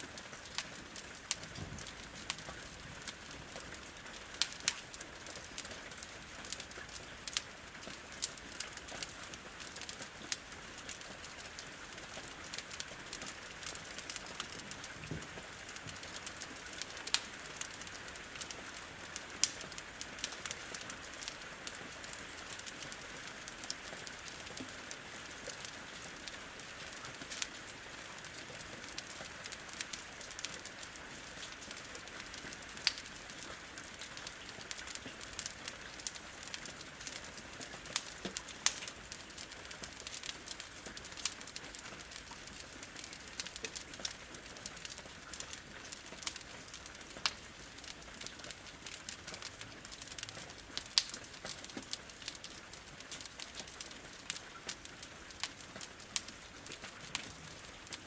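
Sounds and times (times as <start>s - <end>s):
rain on a window: 0.0s - 58.0s
wood fire crackling: 0.0s - 58.0s.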